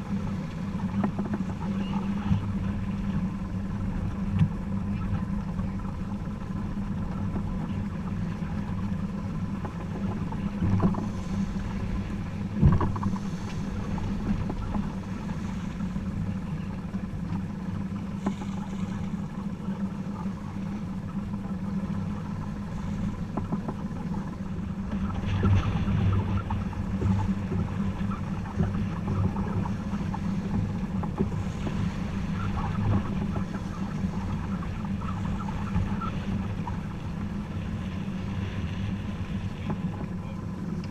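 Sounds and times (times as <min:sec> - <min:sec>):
boat engine humming: 0:00.0 - 0:40.9
water noise: 0:00.0 - 0:40.9
wind: 0:00.0 - 0:40.9.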